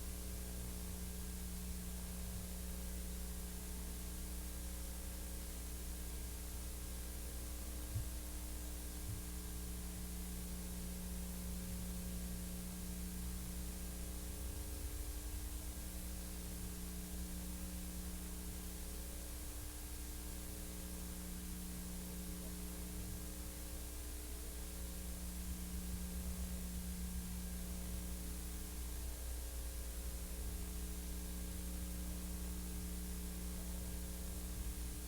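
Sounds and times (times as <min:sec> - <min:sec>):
electrical hum with hiss: 0:00.0 - 0:35.0.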